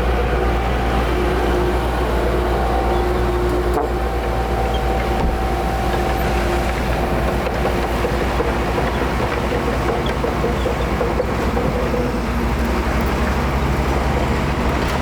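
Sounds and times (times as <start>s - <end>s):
heavy diesel machinery rumbling: 0.0s - 15.0s.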